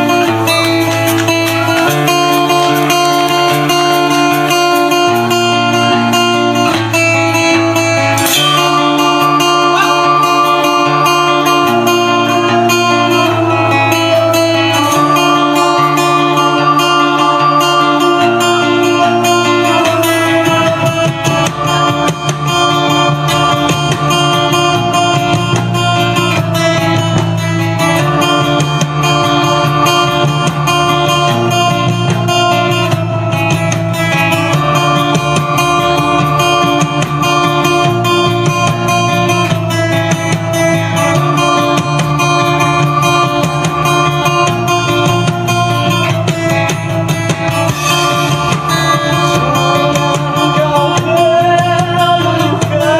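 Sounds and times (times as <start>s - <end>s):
band playing instrumental: 0.0s - 52.9s
bass line: 0.0s - 52.9s
strummed guitar: 0.0s - 52.9s.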